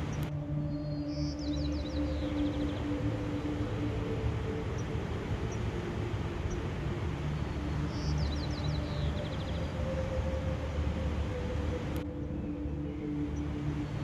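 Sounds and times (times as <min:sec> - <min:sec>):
rushing nature ambience: 0:00.0 - 0:14.0.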